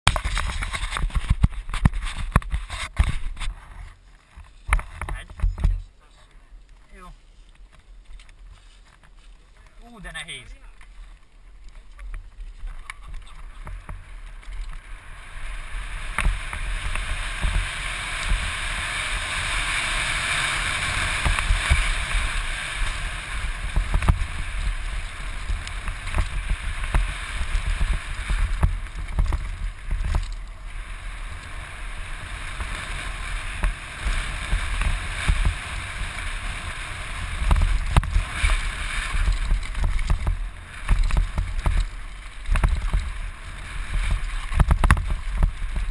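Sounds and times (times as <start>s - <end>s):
bike rattling and knocking: 0.1s - 5.8s, 10.7s - 45.9s.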